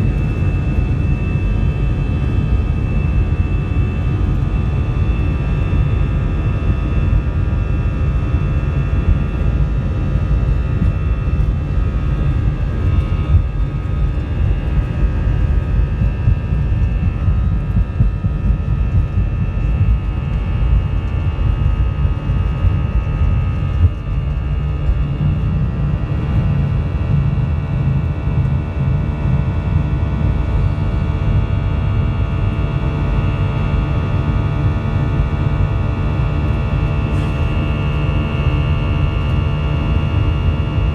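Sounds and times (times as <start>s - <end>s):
high fan whine: 0.0s - 40.9s
jet engine rumble: 0.0s - 40.9s.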